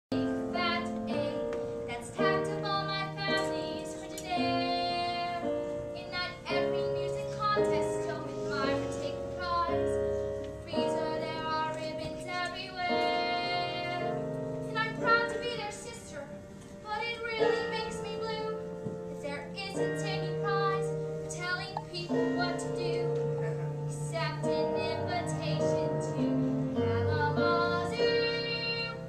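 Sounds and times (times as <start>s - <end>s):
musical accompaniment: 0.1s - 29.0s.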